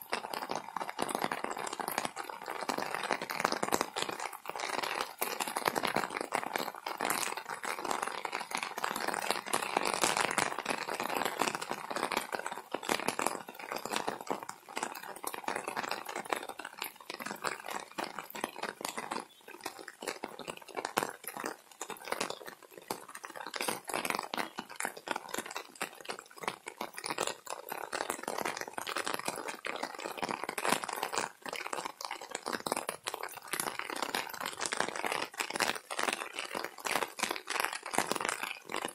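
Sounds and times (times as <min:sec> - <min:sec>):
rain tapping on umbrella: 0:00.0 - 0:38.9.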